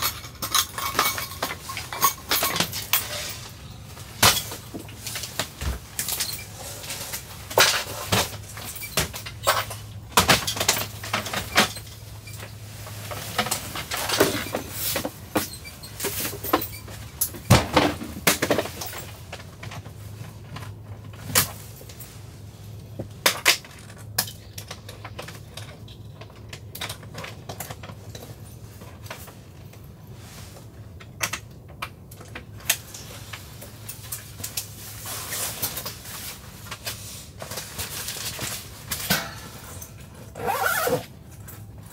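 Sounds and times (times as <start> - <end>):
crates and bags clicking and thumping: 0.0 - 41.9.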